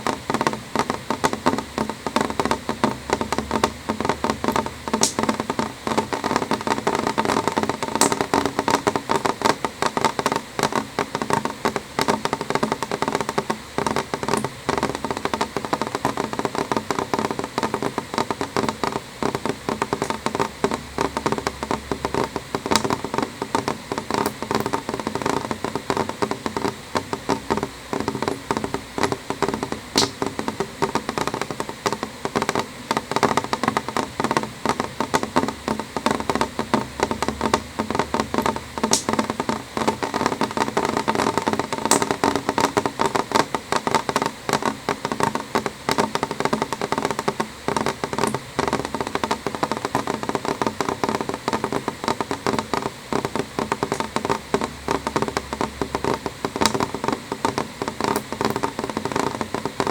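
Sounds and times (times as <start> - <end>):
rain tapping on window glass: 0.0 - 59.9.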